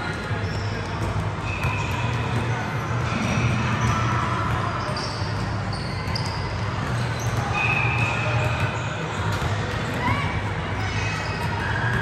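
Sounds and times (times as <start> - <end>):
basketballs bouncing on gym floor: 0.0 - 12.0
sneaker squeaks: 0.0 - 12.0.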